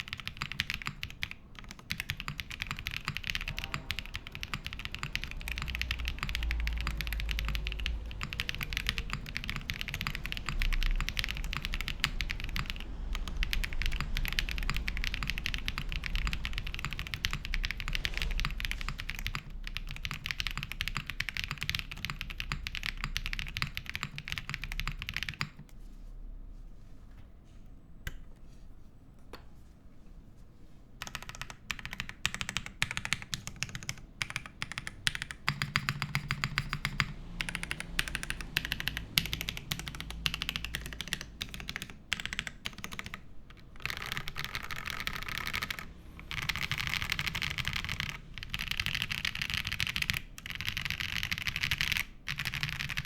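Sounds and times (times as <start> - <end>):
fast mechanical keyboard typing: 0.0 - 25.7, 31.0 - 53.0.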